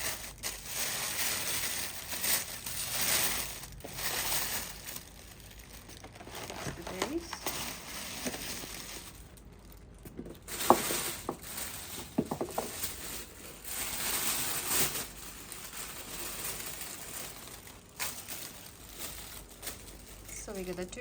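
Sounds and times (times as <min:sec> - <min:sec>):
packaging wrap rustling: 0:00.0 - 0:21.0.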